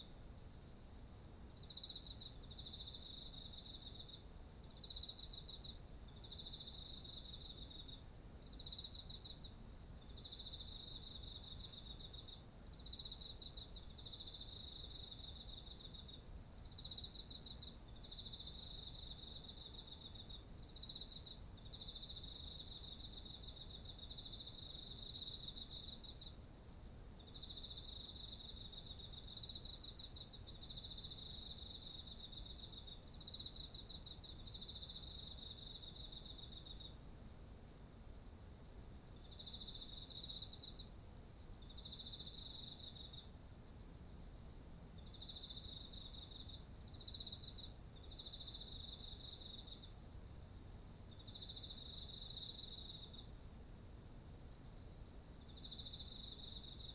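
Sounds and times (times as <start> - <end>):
steady high insect trill: 0.0 - 56.9.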